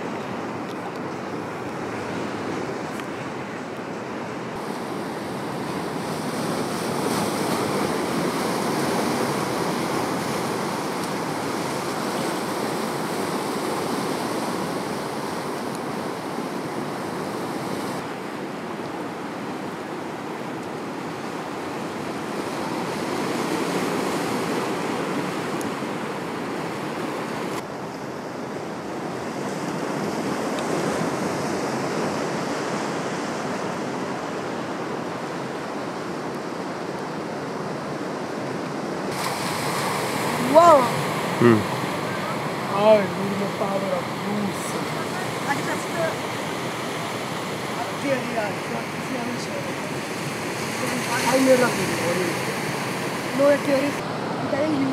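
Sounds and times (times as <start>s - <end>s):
sea waves breaking on beach: 0.0s - 54.9s.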